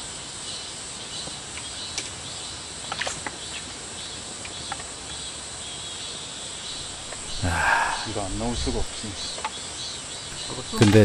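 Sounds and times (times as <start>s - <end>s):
insects chirring: 1.9s - 11.0s.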